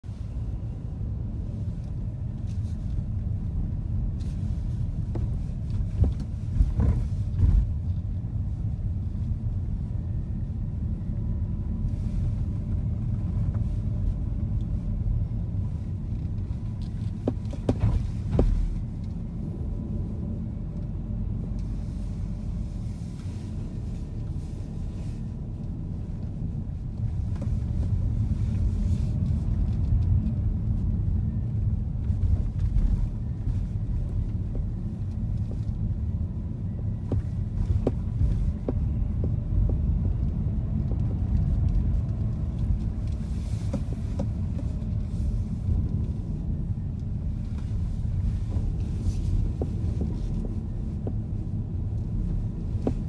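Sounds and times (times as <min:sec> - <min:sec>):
car cabin engine and road rumble: 0:00.0 - 0:53.0.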